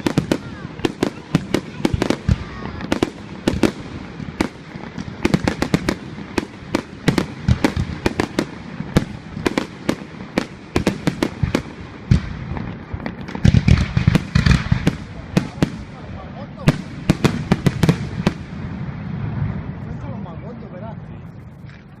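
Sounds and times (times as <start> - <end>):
fireworks bangs and pops: 0.0 - 20.2
heavy firework booms: 0.0 - 20.3.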